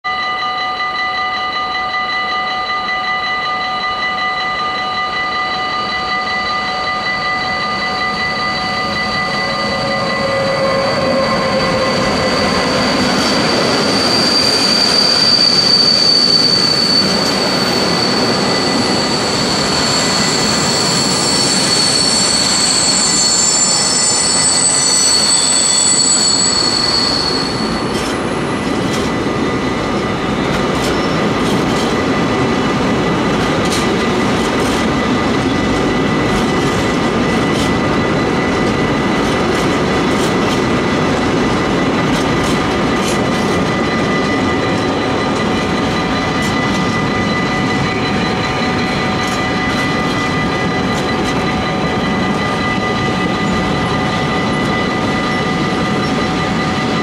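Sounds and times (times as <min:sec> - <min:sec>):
crossing bell ringing: 0:00.0 - 0:57.0
wagons rushing on rails: 0:00.1 - 0:57.0
high wheel squeal: 0:06.2 - 0:57.0.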